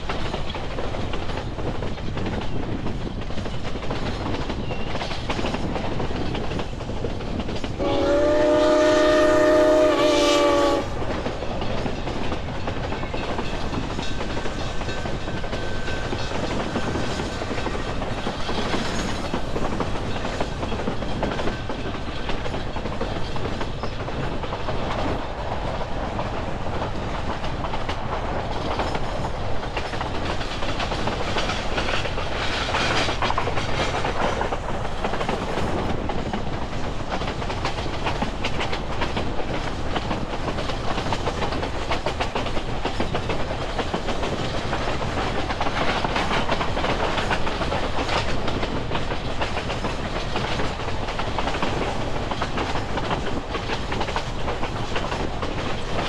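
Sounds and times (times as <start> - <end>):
clickety-clack over rail joints: 0.0 - 56.0
train wheels rumbling on rail: 0.0 - 56.0.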